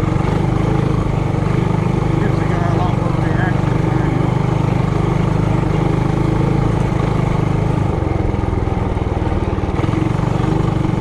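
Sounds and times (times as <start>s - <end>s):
mini bike engine puttering: 0.0s - 11.0s.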